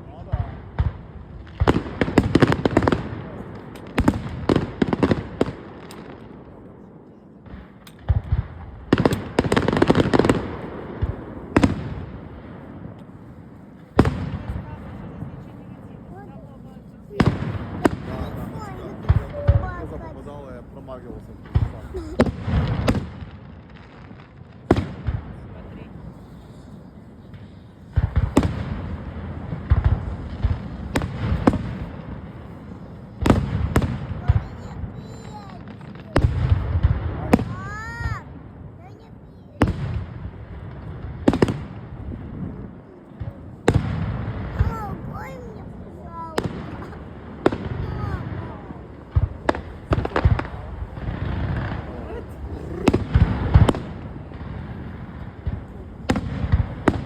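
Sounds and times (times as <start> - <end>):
fireworks crackle: 0.0 - 6.8, 7.4 - 57.0
fireworks bangs: 0.0 - 57.0.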